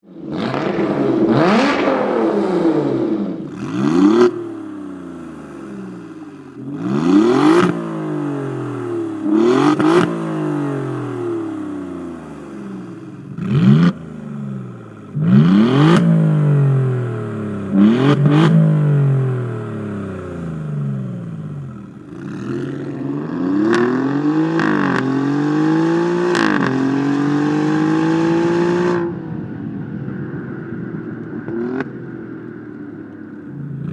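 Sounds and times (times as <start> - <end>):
car engine revving: 0.2 - 29.4.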